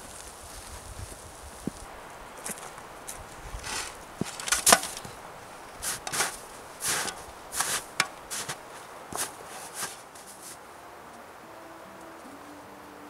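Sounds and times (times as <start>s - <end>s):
footsteps on dry forest ground: 0.0s - 10.6s.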